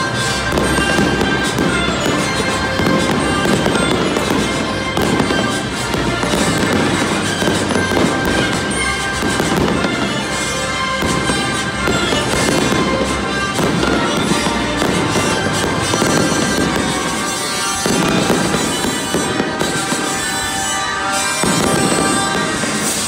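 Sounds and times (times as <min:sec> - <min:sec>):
fireworks bursting: 0:00.0 - 0:23.0
loud music: 0:00.0 - 0:23.0.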